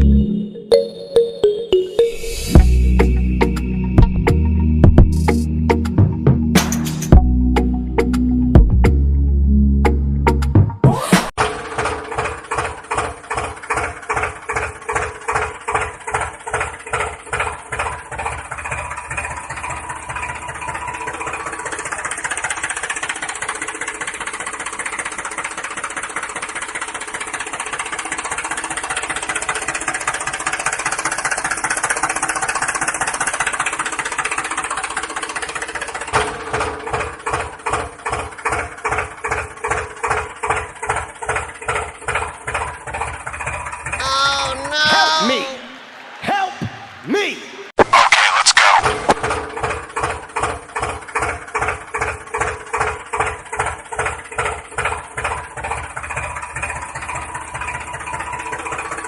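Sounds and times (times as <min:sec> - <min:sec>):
tractor engine running: 0:00.0 - 0:01.1, 0:02.2 - 0:46.1, 0:48.0 - 0:59.0.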